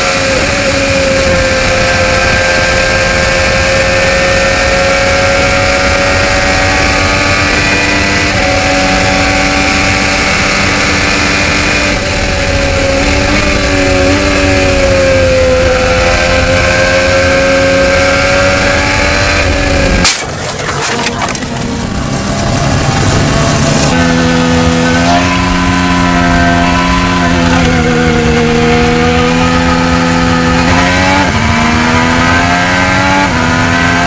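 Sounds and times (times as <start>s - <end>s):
racing car engine at high revs: 0.0s - 34.0s.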